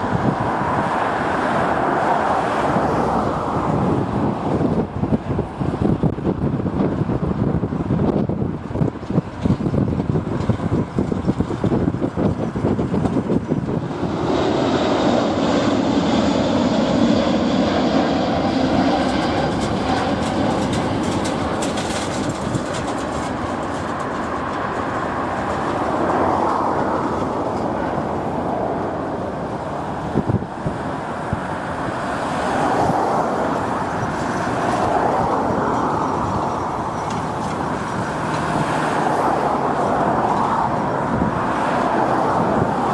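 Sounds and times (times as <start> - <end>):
jet engines roaring: 0.0 - 42.9
wind buffeting microphone: 0.0 - 42.9.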